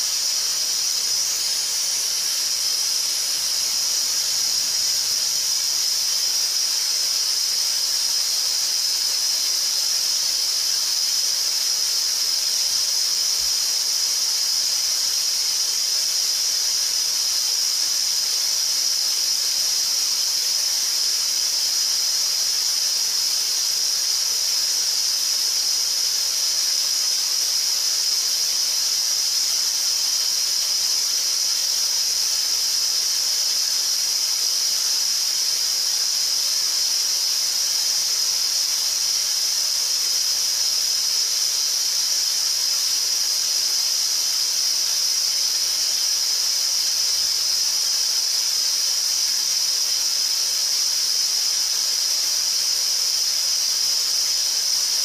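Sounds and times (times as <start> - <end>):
high-pitched electronic hiss: 0.0 - 55.0.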